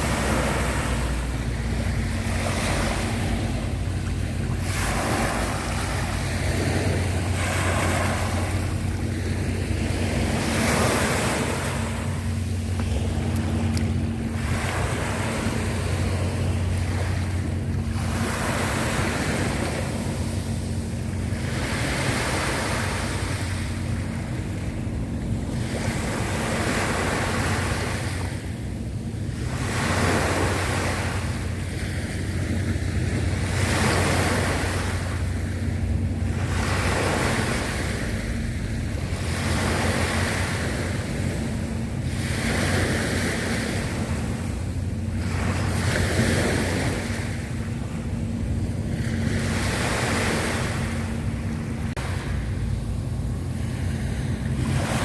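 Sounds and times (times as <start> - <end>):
sea waves washing onto shore: 0.0 - 55.0
steady low hum: 0.0 - 55.0.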